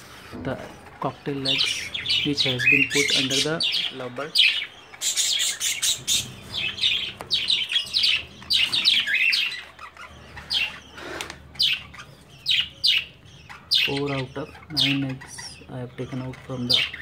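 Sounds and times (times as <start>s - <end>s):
small parrots chirping: 0.0s - 17.0s.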